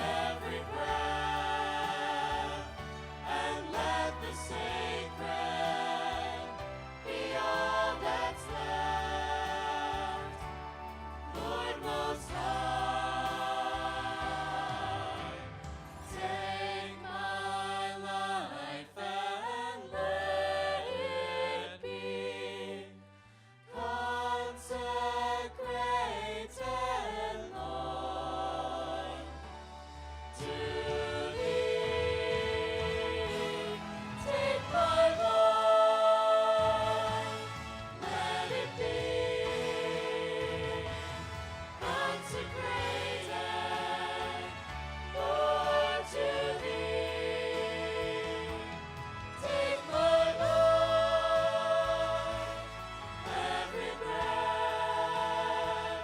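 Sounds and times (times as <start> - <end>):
slow worship music with choir: 0.0 - 56.0.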